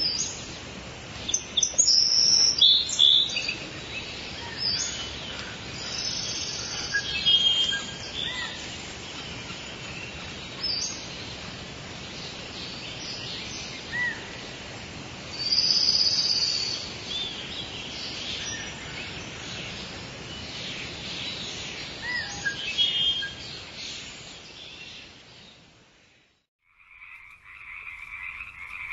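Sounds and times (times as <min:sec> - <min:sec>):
steady background hiss: 0:00.0 - 0:26.4.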